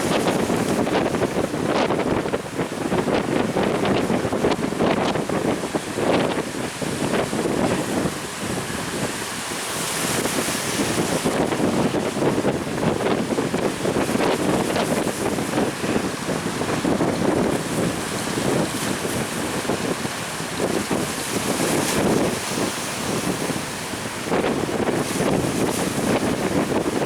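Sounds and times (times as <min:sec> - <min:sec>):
rough sea waves: 0:00.0 - 0:27.0
wind buffeting microphone: 0:00.0 - 0:27.0.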